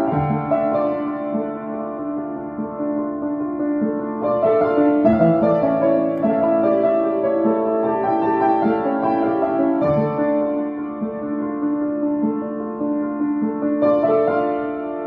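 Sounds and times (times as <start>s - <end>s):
piano music with held notes: 0.0s - 15.0s.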